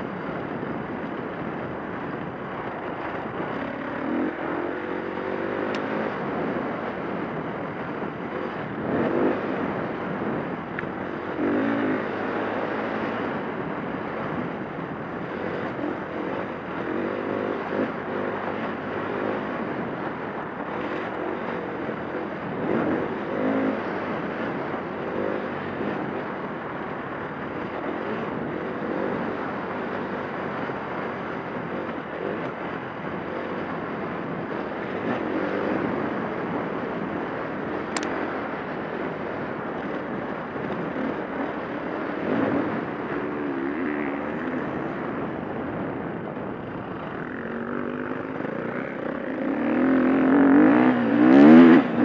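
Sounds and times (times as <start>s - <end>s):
steady rushing noise: 0.0s - 52.0s
dirt bike engine revving: 2.9s - 14.5s, 15.2s - 26.3s, 27.2s - 45.9s, 46.7s - 52.0s.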